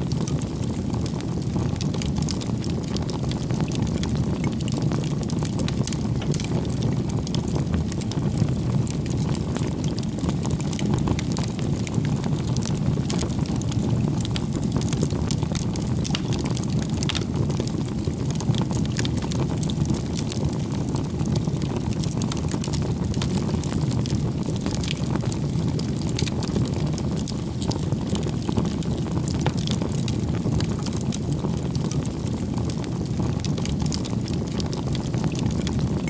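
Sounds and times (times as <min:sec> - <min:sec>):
bonfire flames rushing: 0:00.0 - 0:36.0
fire crackling and popping: 0:00.0 - 0:36.0.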